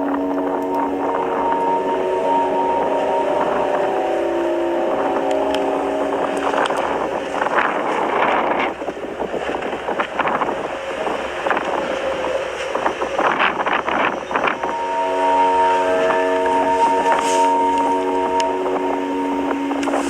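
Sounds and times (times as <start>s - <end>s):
drone of held tones: 0.0s - 9.1s, 11.0s - 20.0s
crackles: 0.0s - 20.0s
wind buffeting microphone: 0.0s - 20.0s.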